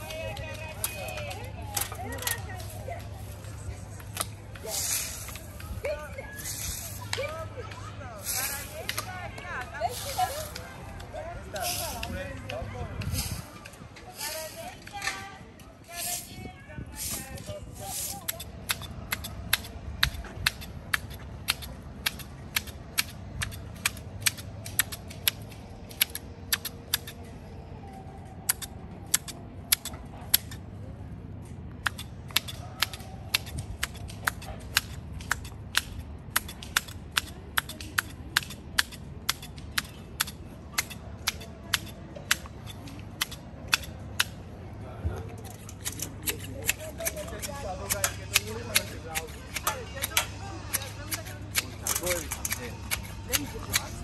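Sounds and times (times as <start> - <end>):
hedge shears snipping: 0.0 - 15.3, 15.9 - 27.2, 28.4 - 30.6, 31.8 - 44.4, 45.4 - 54.0.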